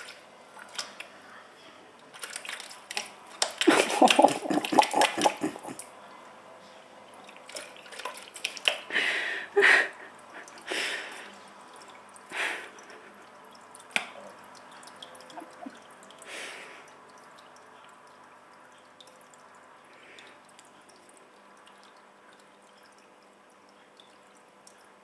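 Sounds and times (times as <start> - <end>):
cat splashing water: 0.0 - 1.3, 1.9 - 6.2, 7.0 - 25.0.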